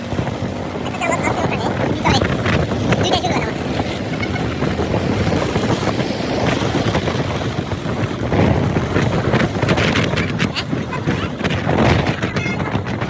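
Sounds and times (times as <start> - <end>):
motorcycle running: 0.0 - 13.0
road noise: 0.0 - 13.0
wind rushing on microphone: 0.0 - 13.0.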